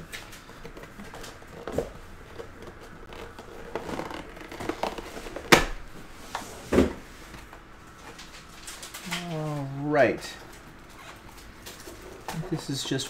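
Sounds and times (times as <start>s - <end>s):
cardboard rustling and scraping: 0.0s - 9.7s, 10.9s - 13.0s.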